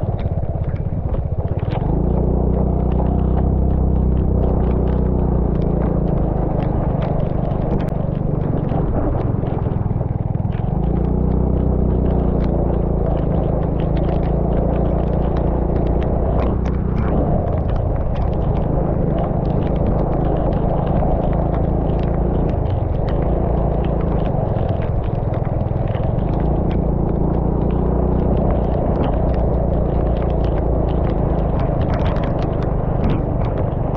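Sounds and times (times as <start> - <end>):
rain ticking on camera: 0.0 - 33.9
vehicle engine running: 0.0 - 33.9
wind and travel noise: 0.0 - 33.9.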